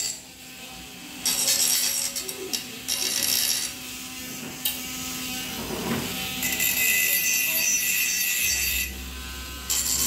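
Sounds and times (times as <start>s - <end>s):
motor rattling and scraping: 1.2s - 10.0s.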